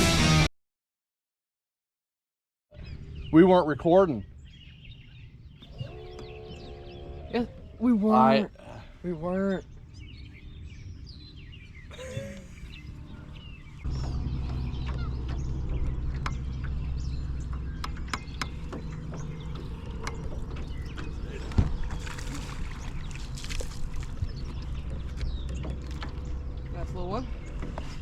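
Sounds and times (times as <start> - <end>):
boat motor droning: 5.2 - 28.0.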